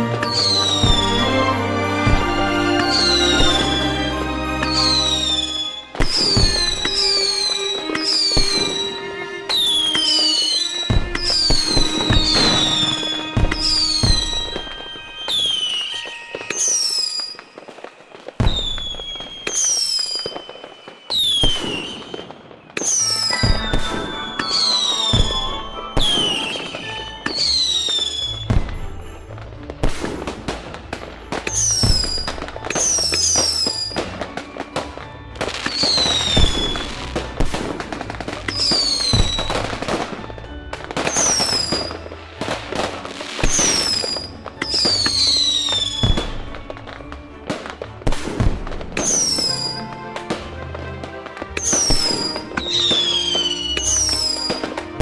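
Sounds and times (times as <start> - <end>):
fireworks cracks and bangs: 0.0 - 55.0
fireworks whistling: 0.0 - 55.0
music: 0.0 - 55.0.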